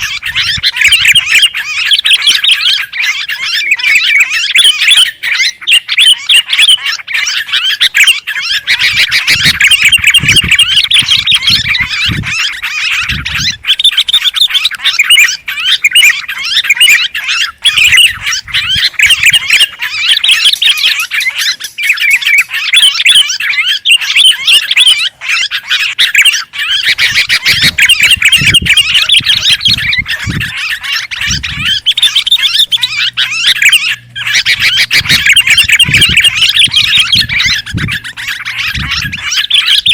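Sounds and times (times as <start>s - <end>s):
bulbuls chattering and squawking: 0.0s - 39.9s.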